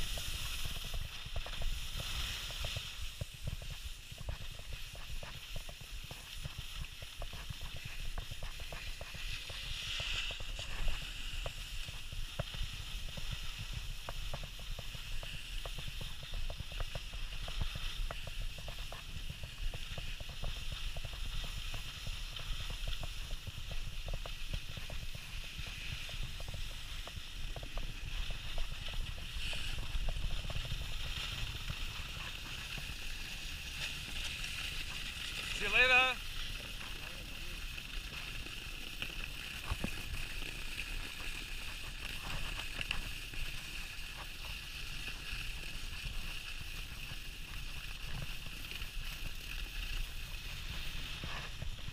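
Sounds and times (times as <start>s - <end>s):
skis scraping over snow: 0.0s - 51.9s.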